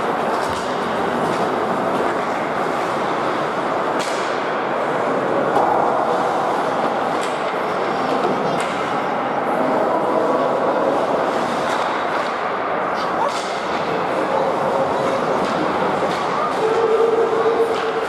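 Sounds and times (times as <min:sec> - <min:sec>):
skating and crowd rumble: 0:00.0 - 0:18.0.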